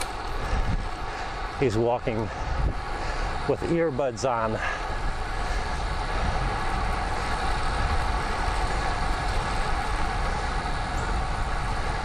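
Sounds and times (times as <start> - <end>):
wind noise on microphone: 0.0 - 4.2, 4.8 - 12.0.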